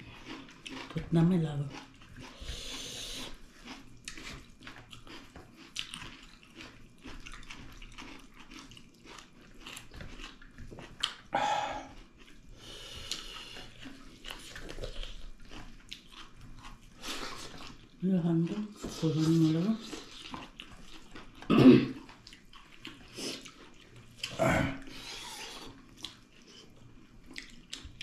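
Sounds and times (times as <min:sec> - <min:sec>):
people chewing with wet smacking: 0:00.0 - 0:28.0.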